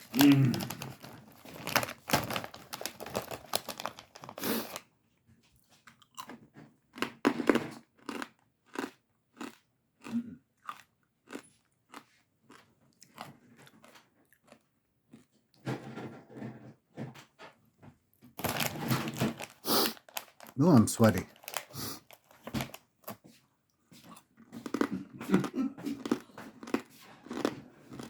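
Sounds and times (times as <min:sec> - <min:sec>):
chewing crunchy pork rinds: 0:00.0 - 0:04.8, 0:05.7 - 0:16.0, 0:18.4 - 0:28.0.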